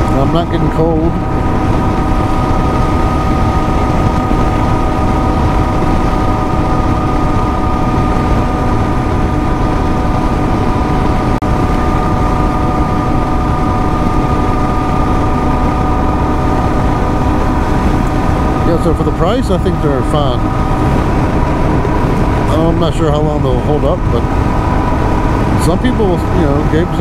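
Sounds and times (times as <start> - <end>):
motorcycle engine cruising: 0.0 - 27.0
wind and road noise: 0.0 - 27.0.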